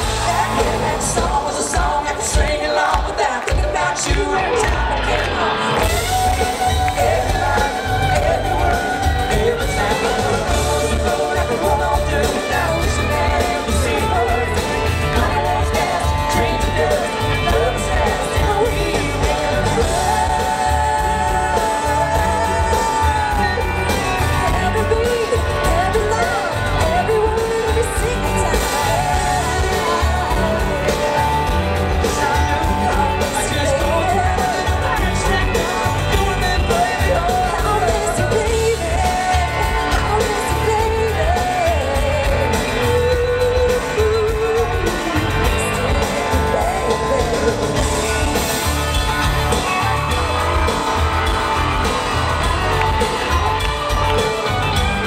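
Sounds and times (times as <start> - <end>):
man and woman singing together: 0.0 - 48.5
country-rock band playing: 0.0 - 55.0.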